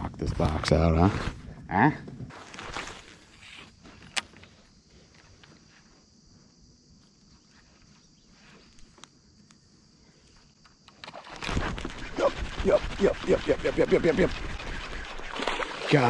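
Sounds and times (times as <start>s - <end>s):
high-pitched insect chorus: 1.6s - 16.0s.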